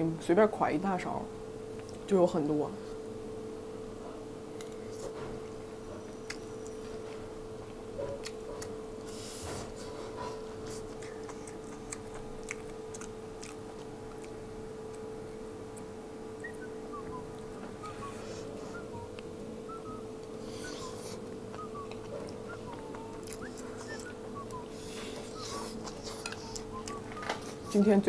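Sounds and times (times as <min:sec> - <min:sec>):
steady low hum: 0:00.0 - 0:28.0
person chewing food: 0:04.6 - 0:27.7.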